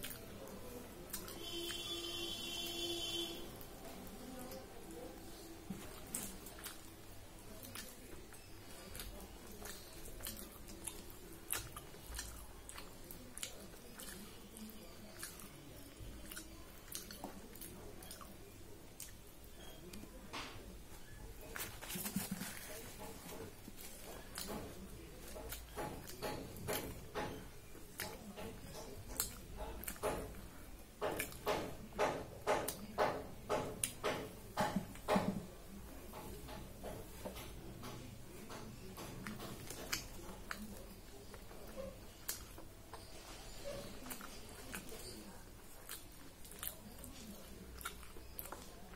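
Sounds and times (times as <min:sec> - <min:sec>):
person chewing food: 0:00.0 - 0:20.2, 0:21.0 - 0:35.2, 0:36.0 - 0:48.9.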